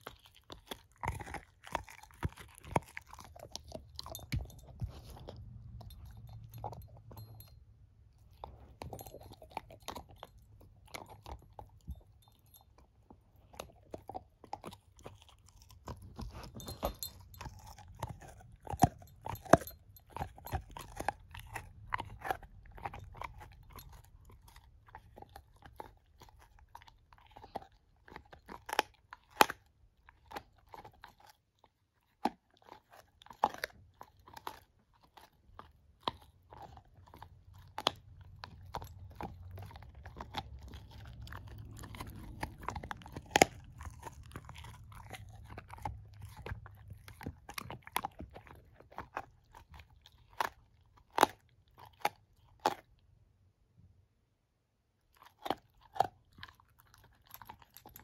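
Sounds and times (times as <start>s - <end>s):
puppy gnawing a chew bone: 0.0s - 53.6s, 54.9s - 58.0s.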